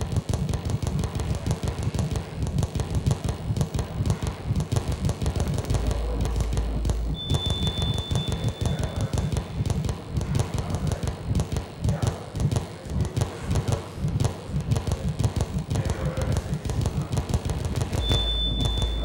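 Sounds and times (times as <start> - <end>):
pulsing low rumble: 0.0 - 19.0
rapid electronic clicks and crackle: 0.0 - 19.0.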